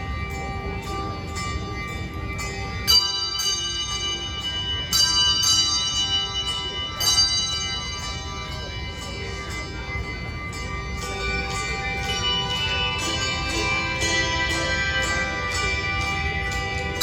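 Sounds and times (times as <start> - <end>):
handbell choir playing: 0.0 - 17.0.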